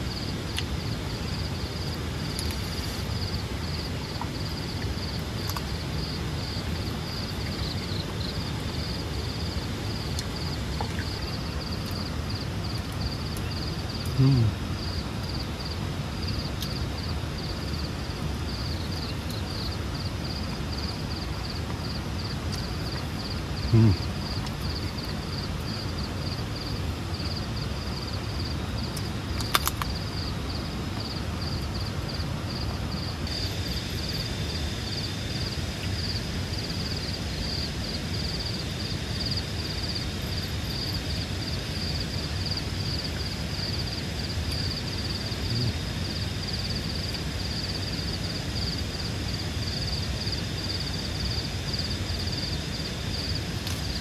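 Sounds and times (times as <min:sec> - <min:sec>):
insect chirping in high pulse: 0:00.0 - 0:54.0
steady hiss: 0:00.0 - 0:54.0.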